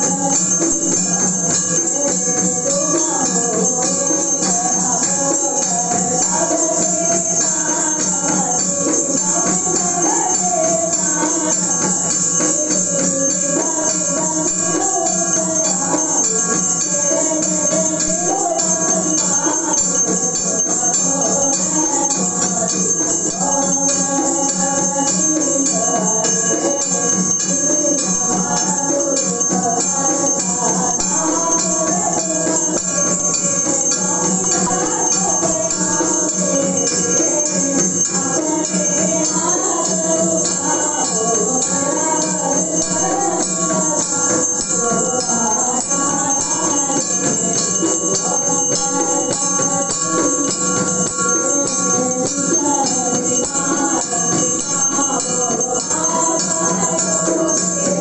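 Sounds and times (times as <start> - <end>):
jingling percussion: 0.0 - 58.0
ringing bells: 0.0 - 58.0
voices singing a hymn: 0.0 - 58.0.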